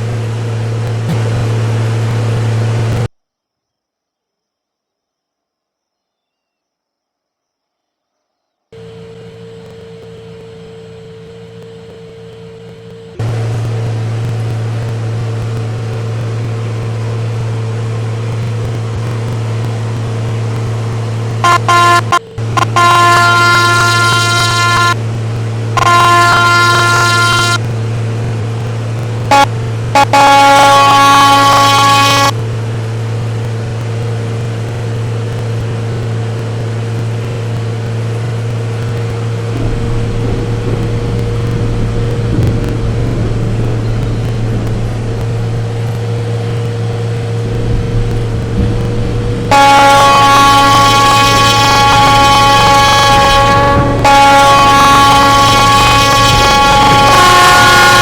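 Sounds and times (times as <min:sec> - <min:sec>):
low engine hum: 0:00.0 - 0:03.1, 0:08.8 - 0:58.0
train running low drone: 0:00.0 - 0:03.1, 0:08.8 - 0:58.0
deep rumble: 0:08.8 - 0:58.0.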